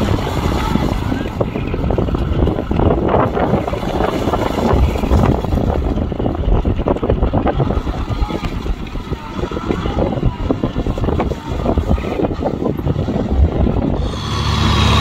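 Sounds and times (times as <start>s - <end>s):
mud and water sloshing: 0.0s - 15.0s
tractor diesel engine under load: 0.0s - 15.0s.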